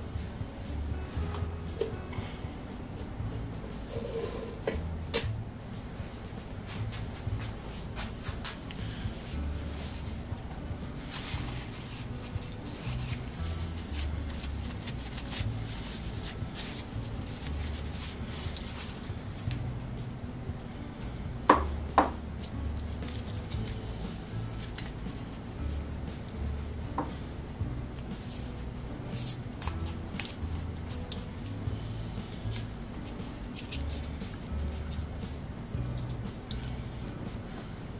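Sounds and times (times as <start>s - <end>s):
quiet background music: 0.0s - 37.9s.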